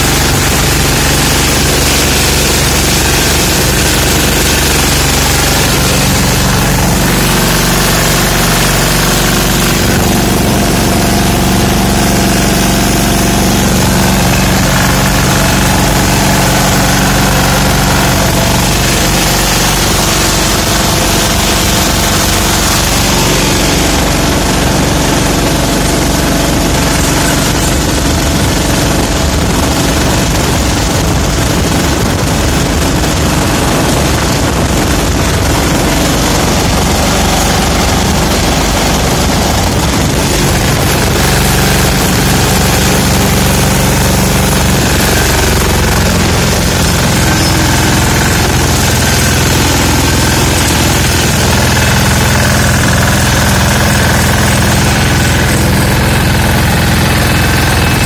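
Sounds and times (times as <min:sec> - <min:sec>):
tractor diesel engine running: 0:00.0 - 0:58.0
vibration and rattle: 0:00.0 - 0:58.0.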